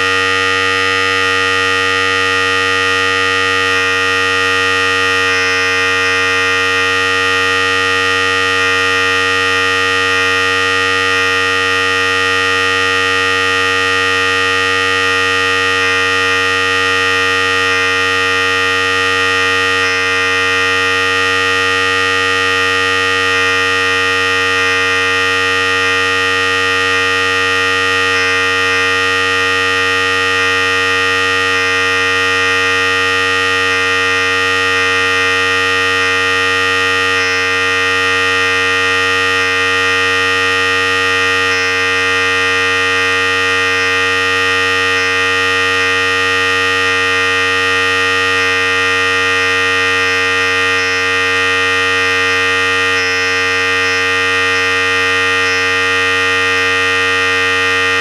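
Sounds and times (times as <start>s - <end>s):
electric hair clipper buzzing: 0.0s - 58.0s.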